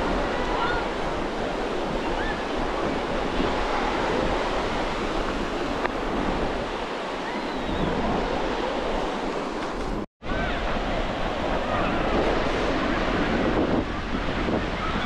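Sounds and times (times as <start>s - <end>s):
sea surf washing onto beach: 0.0s - 15.0s
wind buffeting microphone: 0.0s - 15.0s.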